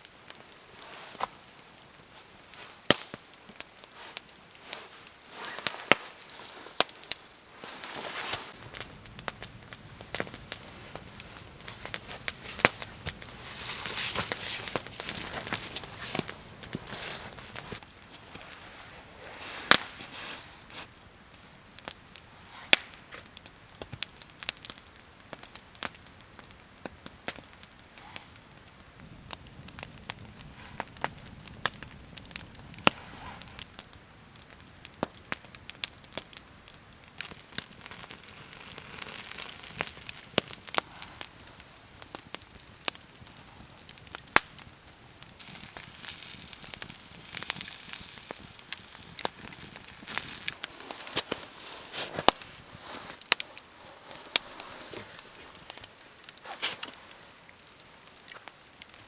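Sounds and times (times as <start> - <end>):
campfire crackling and popping: 0.0 - 59.0
low hiss: 0.0 - 59.0.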